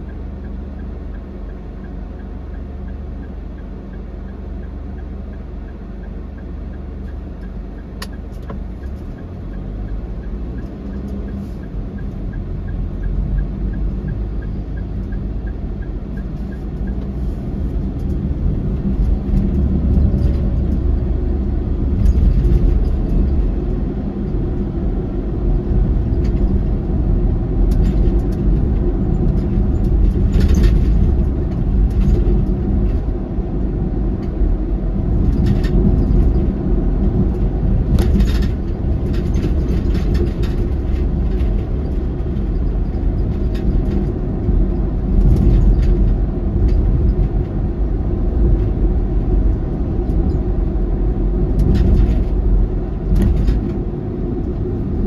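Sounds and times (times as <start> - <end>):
car engine and road rumble: 0.0 - 55.0
turn signal ticking: 0.0 - 55.0.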